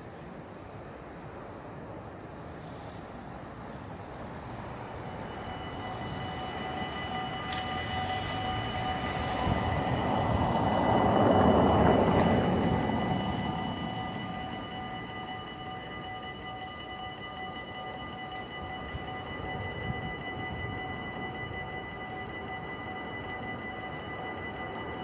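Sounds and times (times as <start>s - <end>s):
high multi-tone whine: 0.0s - 25.0s.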